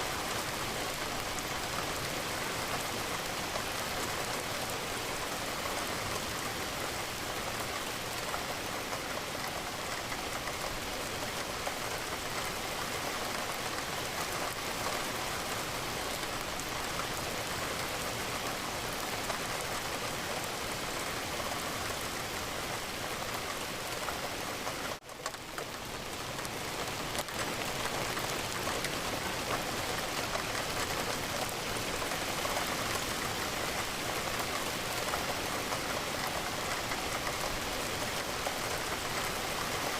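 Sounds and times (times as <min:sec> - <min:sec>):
rain falling against a window: 0:00.0 - 0:39.9.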